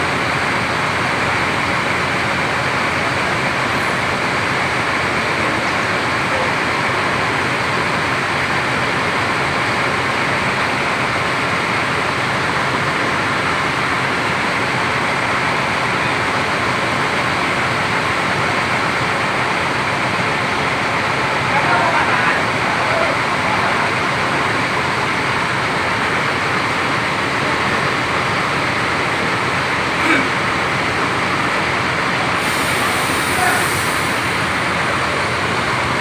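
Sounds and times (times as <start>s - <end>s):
buses running: 0.0s - 36.0s.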